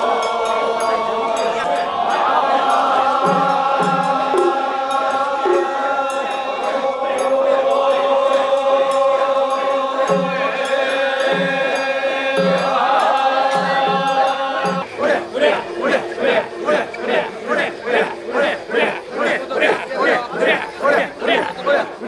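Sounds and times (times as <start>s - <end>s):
men chanting in held tones: 0.0s - 22.0s.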